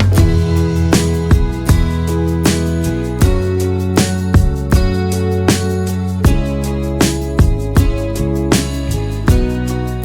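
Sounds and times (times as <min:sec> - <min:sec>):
guitar-led instrumental music: 0:00.0 - 0:10.0.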